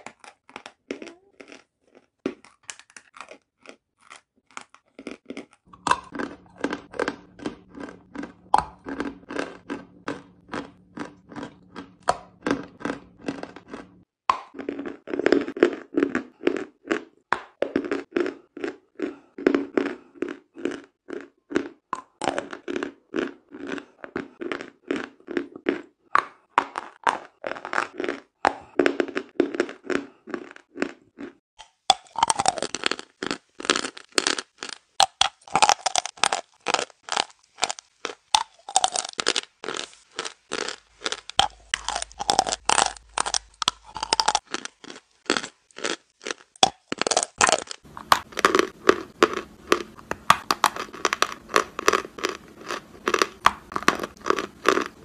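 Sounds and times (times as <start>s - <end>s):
chalk crunching in chewing: 0.0s - 55.0s.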